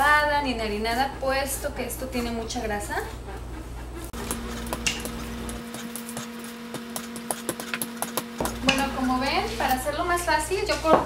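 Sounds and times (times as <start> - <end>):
steady low hum: 0.0 - 11.0
rolling pin rolling dough: 0.4 - 11.0.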